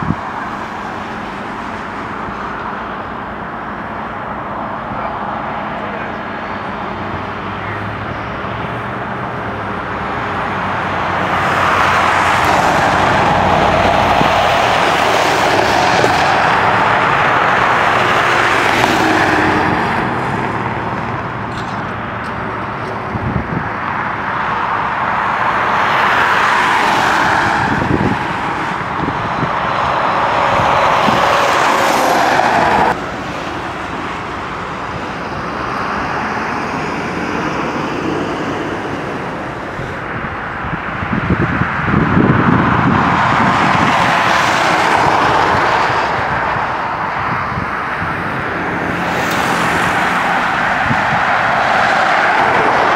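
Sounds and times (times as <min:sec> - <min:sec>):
highway traffic passing: 0:00.0 - 0:52.9.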